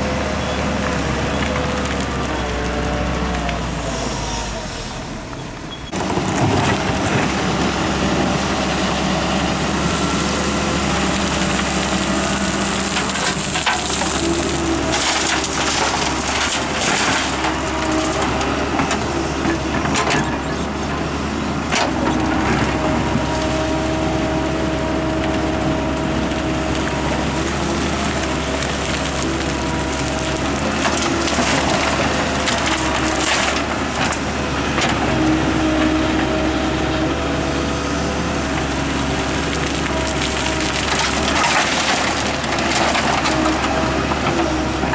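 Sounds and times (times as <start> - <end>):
heavy diesel machinery running: 0.0 - 44.9
soil and rock knocks and crunches: 5.9 - 44.9.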